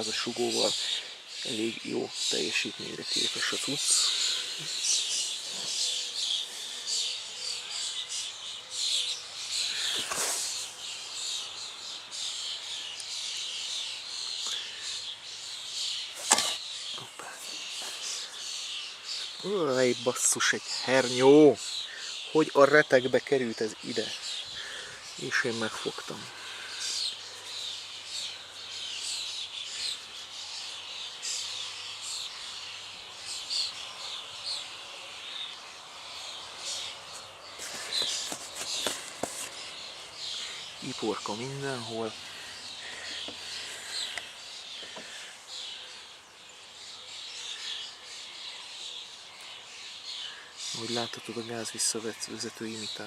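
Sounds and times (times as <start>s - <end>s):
birds chirping: 0.0s - 53.0s
insects trilling: 0.0s - 53.0s.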